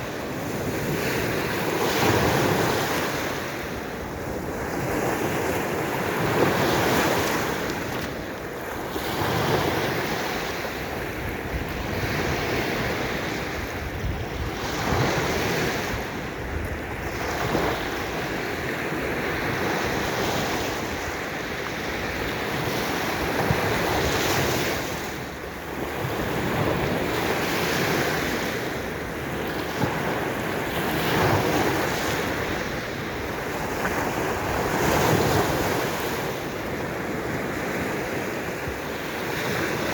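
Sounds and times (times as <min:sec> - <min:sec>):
waves washing onto shore: 0:00.0 - 0:39.9
wind buffeting microphone: 0:00.0 - 0:39.9.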